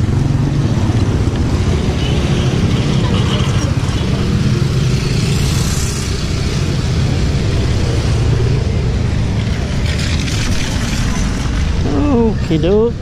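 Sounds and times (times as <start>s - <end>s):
road noise: 0.0s - 13.0s
vehicle engine rumbling: 0.0s - 13.0s.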